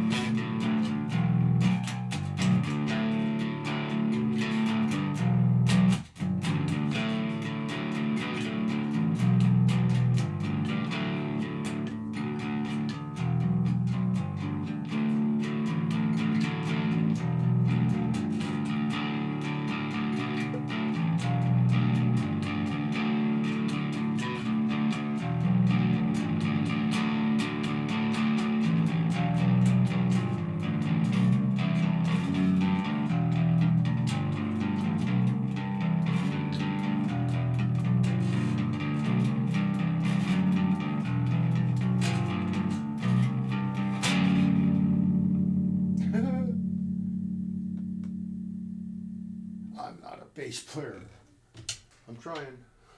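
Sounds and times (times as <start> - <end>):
electric bass plucked: 0.0 - 50.2.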